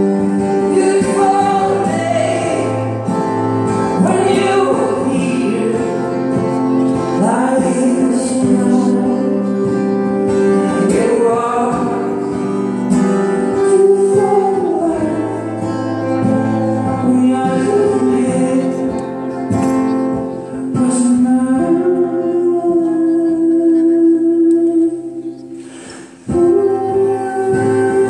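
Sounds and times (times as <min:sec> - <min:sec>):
man singing: 0:00.0 - 0:19.6, 0:20.4 - 0:25.6, 0:26.2 - 0:28.0
acoustic guitars playing: 0:00.0 - 0:28.0.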